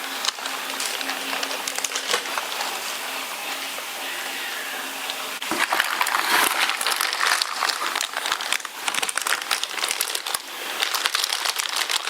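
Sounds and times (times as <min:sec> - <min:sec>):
plastic packaging crinkling: 0:00.0 - 0:03.6, 0:05.4 - 0:12.0.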